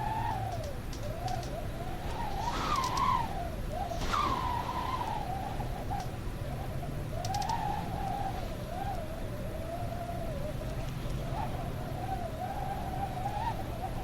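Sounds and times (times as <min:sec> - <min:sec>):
howling whistling wind: 0:00.0 - 0:14.0
low rumble of wind: 0:00.0 - 0:14.0.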